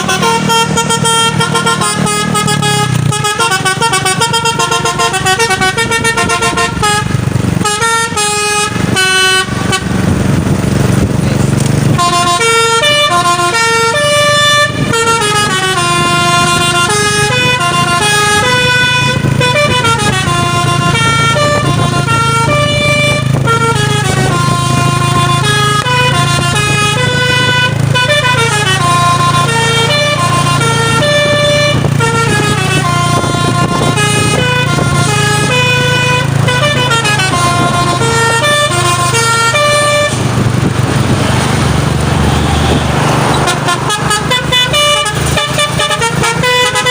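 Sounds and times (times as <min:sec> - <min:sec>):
musical air horn melody: 0:00.0 - 0:10.1, 0:11.9 - 0:40.4, 0:42.2 - 0:46.9
truck engine humming: 0:00.0 - 0:46.9.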